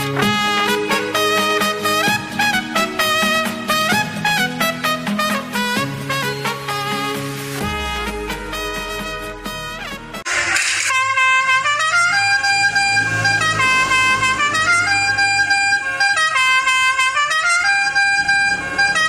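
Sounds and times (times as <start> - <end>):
multi-trumpet horn playing tune: 0.0 - 19.0.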